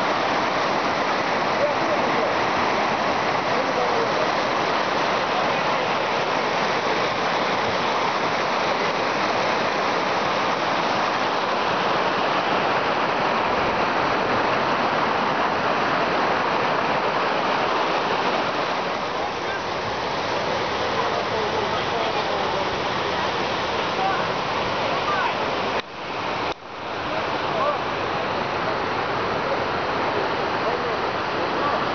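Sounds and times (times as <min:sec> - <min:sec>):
stream rushing over rocks: 0:00.0 - 0:31.9.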